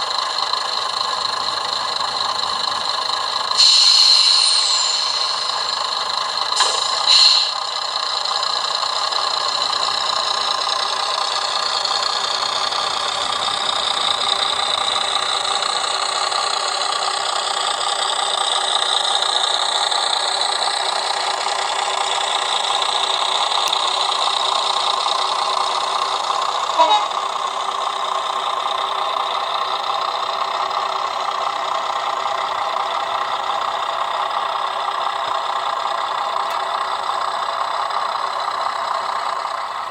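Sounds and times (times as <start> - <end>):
model diesel engine sound from speaker: 0.0 - 39.9.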